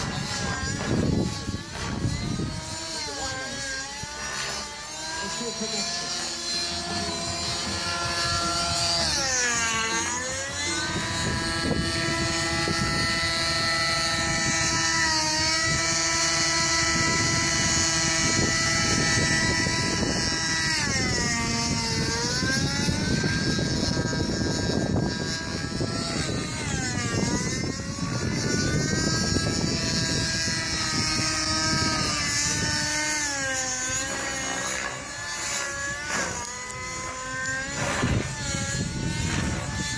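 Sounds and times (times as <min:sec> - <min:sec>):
model helicopter engine and rotor: 0:00.0 - 0:39.9.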